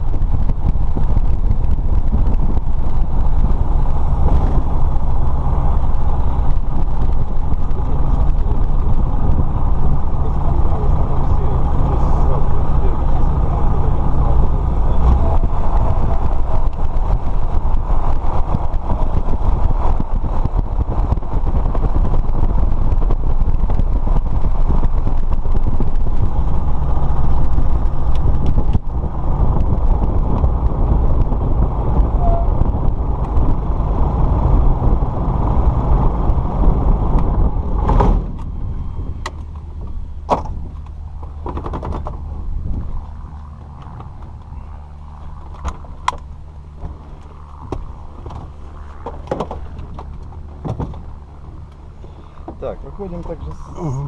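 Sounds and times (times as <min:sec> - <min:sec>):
aircraft engine and propeller: 0:00.0 - 0:53.8.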